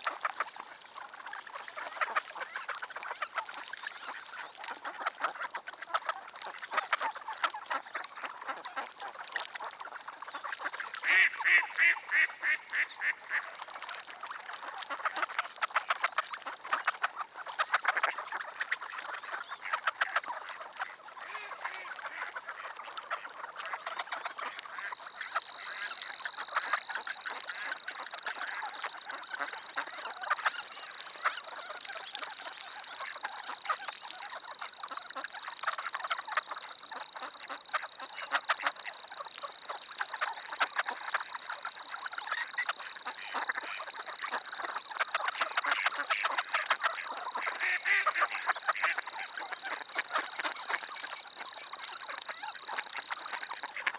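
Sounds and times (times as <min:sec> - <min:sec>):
flock of ducks calling: 0:00.0 - 0:53.9.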